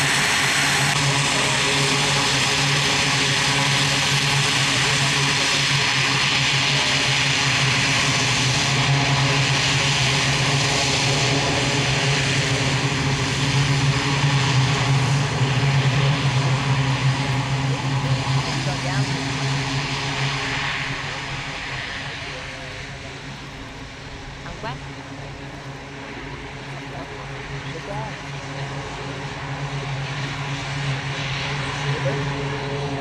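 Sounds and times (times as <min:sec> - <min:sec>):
propeller aircraft drone: 0:00.0 - 0:33.0.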